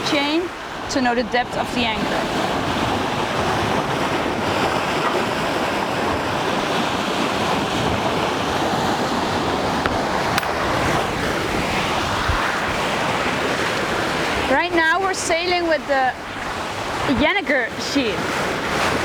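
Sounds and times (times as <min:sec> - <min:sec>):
sea water rushing: 0:00.0 - 0:19.0
wind buffeting microphone: 0:00.0 - 0:19.0
wind rushing: 0:01.8 - 0:17.2.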